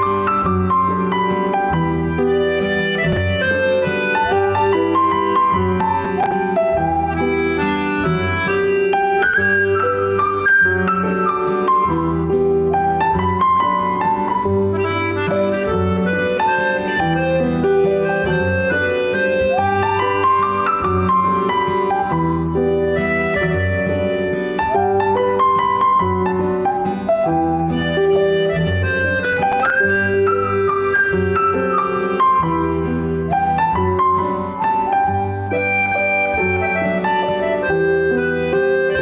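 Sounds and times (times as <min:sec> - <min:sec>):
held melody line: 0:00.0 - 0:39.0
piano chords: 0:00.0 - 0:39.0.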